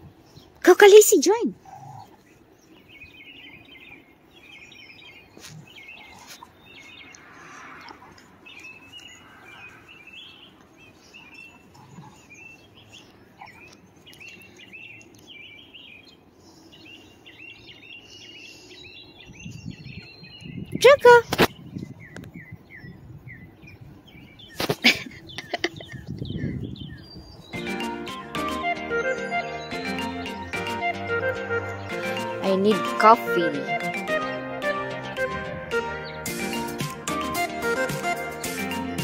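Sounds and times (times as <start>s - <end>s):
faint outdoor background noise: 0.0s - 39.0s
songbirds chirping: 0.0s - 39.0s.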